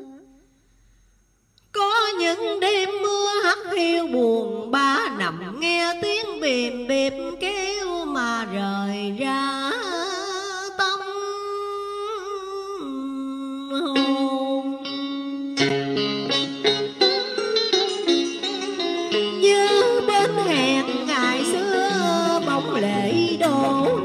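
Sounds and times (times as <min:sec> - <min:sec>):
person singing with vibrato: 0:00.0 - 0:00.4, 0:01.8 - 0:24.0
music: 0:01.8 - 0:24.0.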